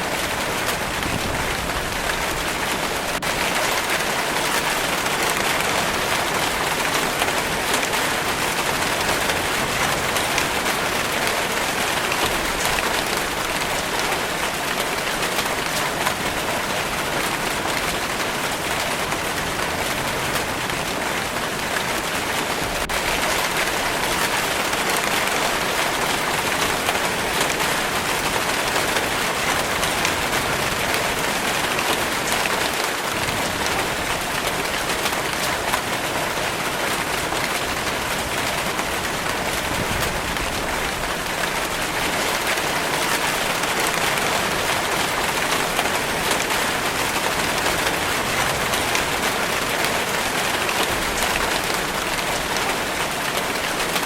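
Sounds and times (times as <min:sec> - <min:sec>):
rain hissing on a surface: 0:00.0 - 0:54.0.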